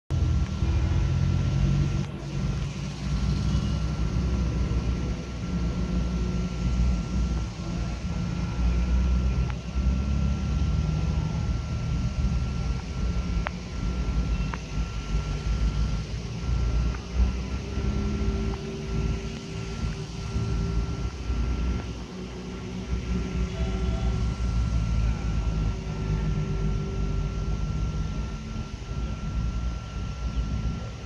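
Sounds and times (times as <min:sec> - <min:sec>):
cars passing: 0:00.1 - 0:29.4
faint high whine: 0:00.1 - 0:31.0.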